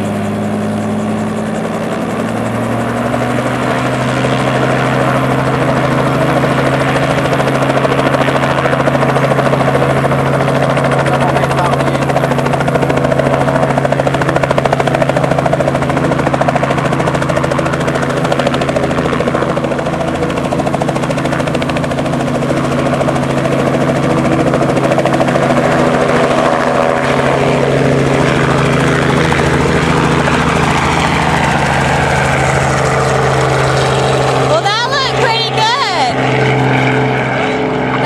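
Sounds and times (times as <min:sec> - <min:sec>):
helicopter engine and rotor drone: 0:00.0 - 0:38.0.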